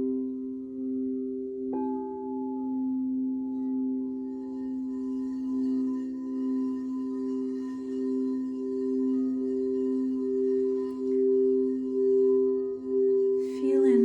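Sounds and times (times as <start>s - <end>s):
crystal singing bowls ringing: 0.0s - 14.0s.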